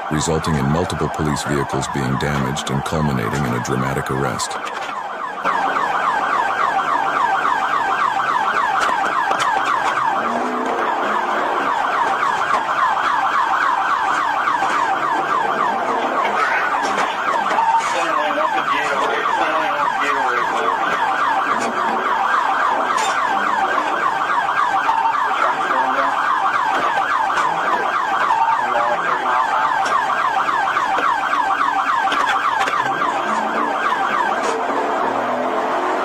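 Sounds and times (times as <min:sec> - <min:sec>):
police siren warbling: 0:00.0 - 0:36.0.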